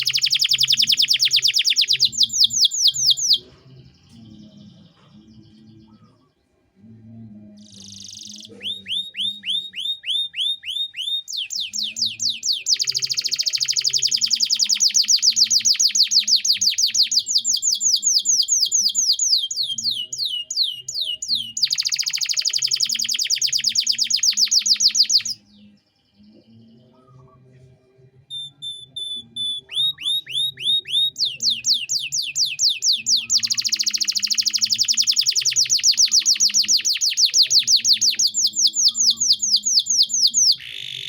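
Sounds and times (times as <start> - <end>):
canary singing trills: 0.0 - 6.5, 7.5 - 27.4, 28.3 - 41.0.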